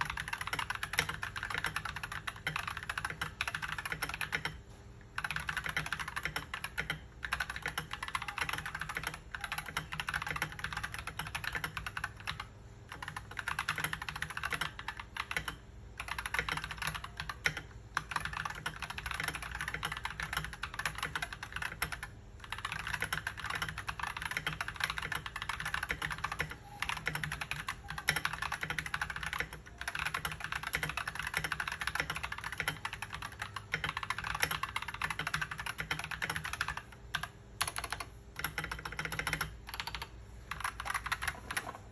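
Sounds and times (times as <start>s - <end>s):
mechanical keyboard typing: 0.0s - 41.9s.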